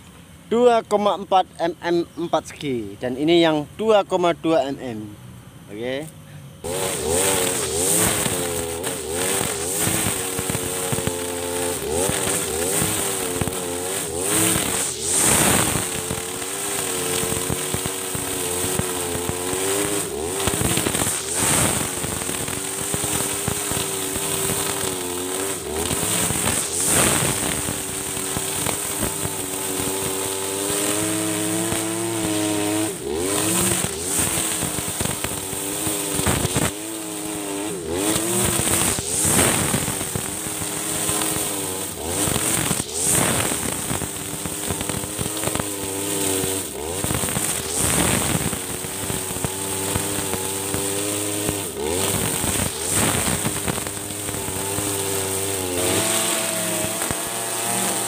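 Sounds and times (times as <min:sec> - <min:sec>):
brush cutter engine revving: 0:00.0 - 0:58.0
nylon line whirring through grass: 0:06.6 - 0:58.0.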